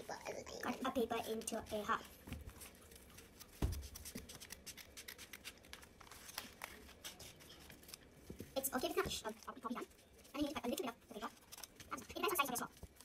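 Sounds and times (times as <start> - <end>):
scissors snipping paper: 2.5 - 13.0.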